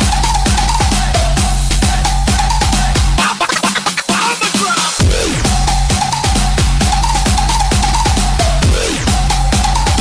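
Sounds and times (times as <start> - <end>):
electronic dance music: 0.0 - 10.0
heavy bass line: 0.0 - 10.0.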